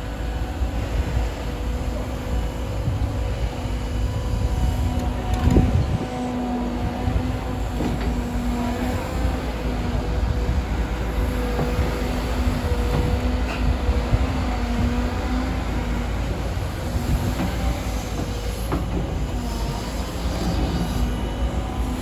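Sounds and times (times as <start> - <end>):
excavator diesel rumble: 0.0 - 22.0
hydraulic whine: 0.0 - 22.0.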